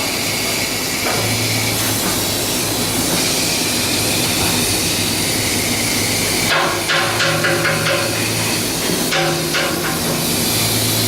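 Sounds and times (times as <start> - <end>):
loud hissing machinery: 0.0 - 11.0.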